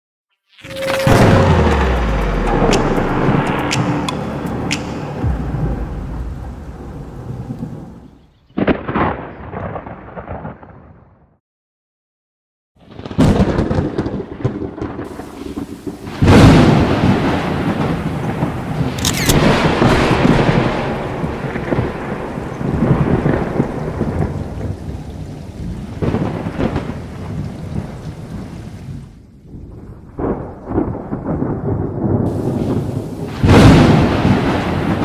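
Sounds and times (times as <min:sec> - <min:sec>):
rain: 0:00.6 - 0:10.6, 0:12.9 - 0:35.0
sharp thunder cracks: 0:00.6 - 0:11.0, 0:12.9 - 0:28.4, 0:29.6 - 0:35.0
rolling thunder rumble: 0:00.7 - 0:11.1, 0:12.9 - 0:35.0.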